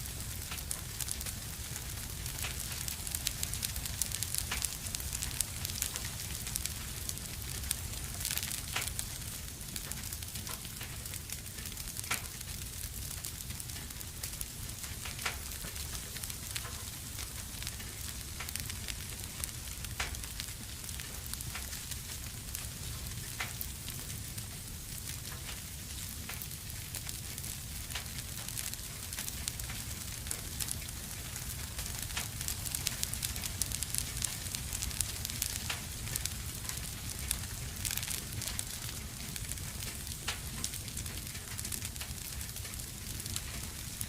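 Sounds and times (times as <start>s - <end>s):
fire crackles and pops: 0.0s - 44.0s
fireplace hiss and rumble: 0.0s - 44.0s.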